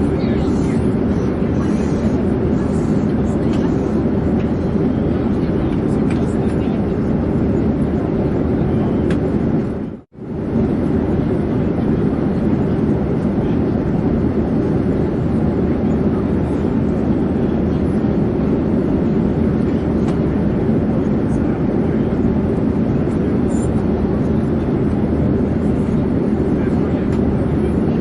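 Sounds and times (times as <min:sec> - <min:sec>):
airplane low rushing drone: 0:00.0 - 0:28.0.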